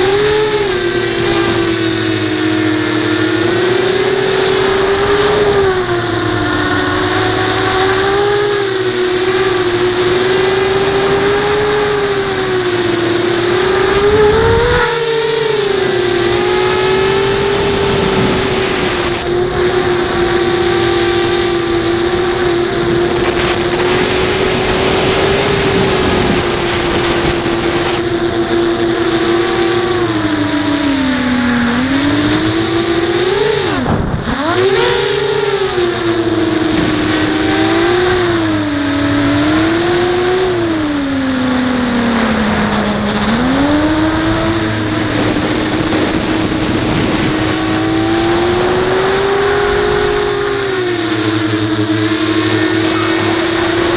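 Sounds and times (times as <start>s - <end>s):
quadcopter motors whining: 0.0s - 53.9s.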